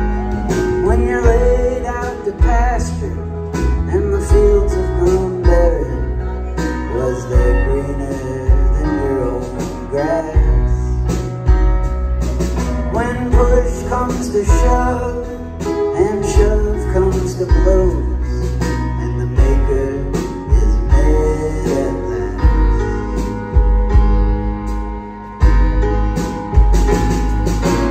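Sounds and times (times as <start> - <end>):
person singing: 0.0 - 11.2, 12.6 - 24.2
live rock band playing: 0.0 - 27.9.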